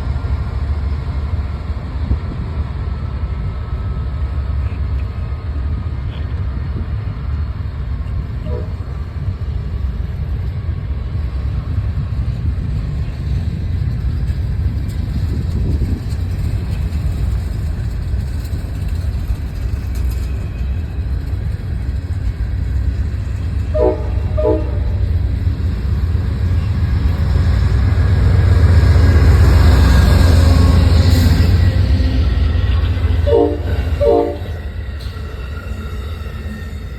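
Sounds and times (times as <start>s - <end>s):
train rumbling: 0.0s - 36.9s.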